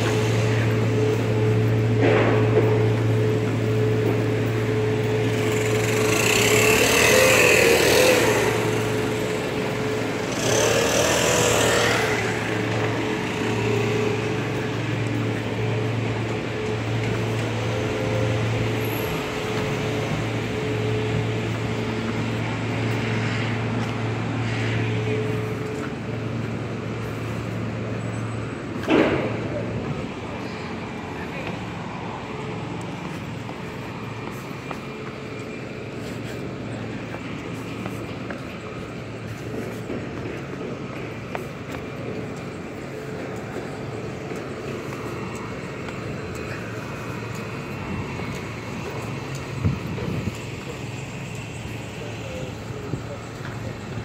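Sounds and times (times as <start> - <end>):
bus engine hum: 0.0 - 54.0
road noise: 0.0 - 54.0
street traffic passing: 0.0 - 54.0.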